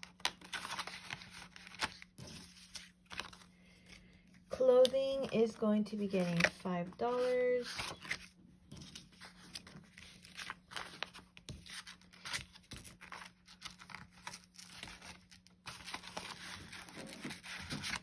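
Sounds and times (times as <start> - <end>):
banknotes rustling: 0.0 - 18.0.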